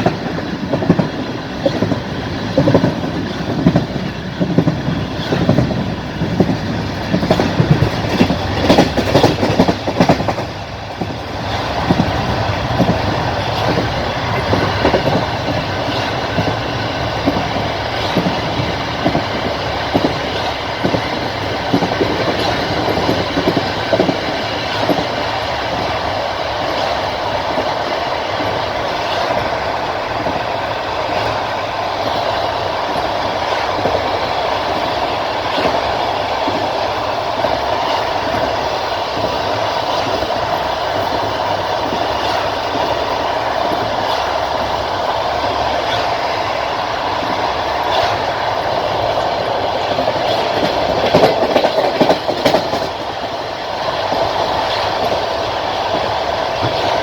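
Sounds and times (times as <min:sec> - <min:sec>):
train coach rumbling on track: 0:00.0 - 0:57.0
wheels clickety-clack over rail joints: 0:00.0 - 0:57.0.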